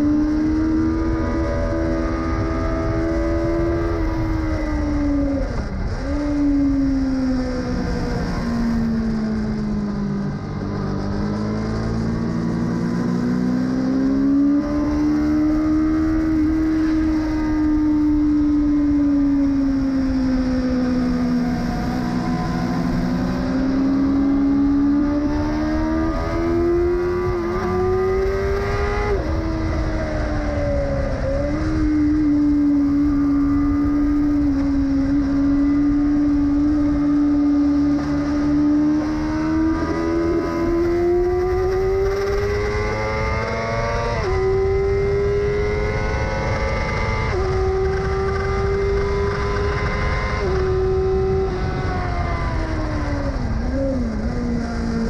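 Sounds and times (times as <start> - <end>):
wind rush: 0.0 - 55.0.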